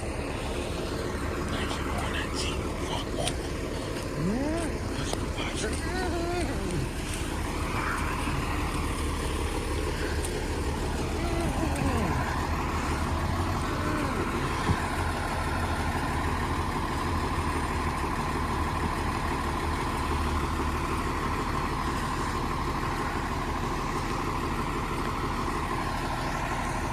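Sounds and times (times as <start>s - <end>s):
fire engine idling: 0.0s - 26.9s.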